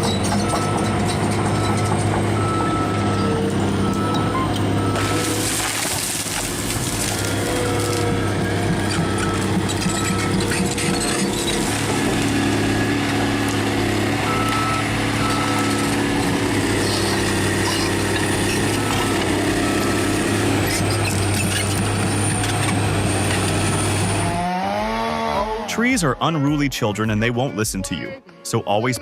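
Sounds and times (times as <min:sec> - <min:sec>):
heavy machine engine running: 0:00.0 - 0:26.0.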